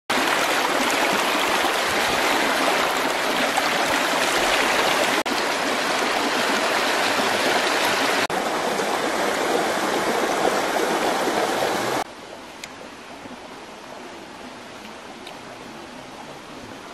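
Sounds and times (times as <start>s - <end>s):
stream water rushing: 0.1s - 16.9s.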